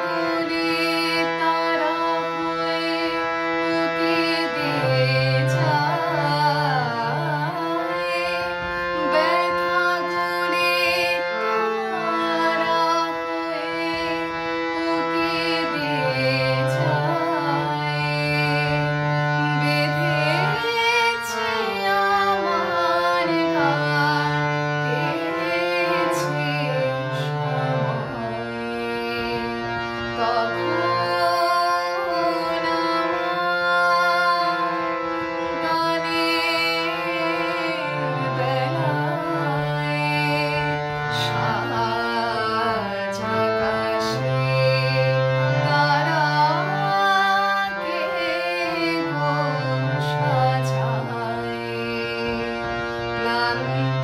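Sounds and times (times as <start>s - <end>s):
harmonium: 0.0s - 54.0s
woman singing: 0.0s - 54.0s.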